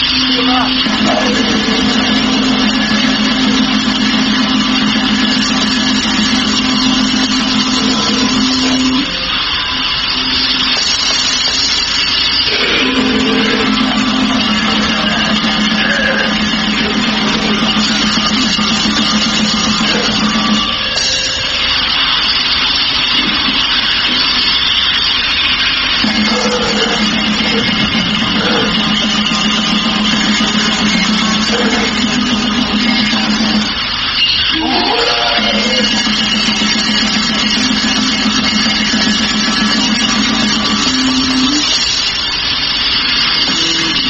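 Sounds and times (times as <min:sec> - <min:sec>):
low droning tone: 0:00.0 - 0:41.8
wall of distorted noise: 0:00.0 - 0:44.0.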